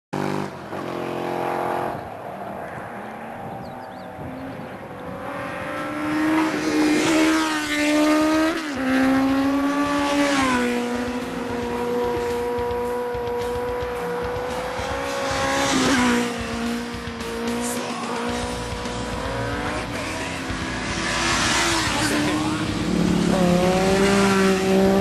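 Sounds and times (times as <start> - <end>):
motorcycle engines revving: 0.2 - 25.0.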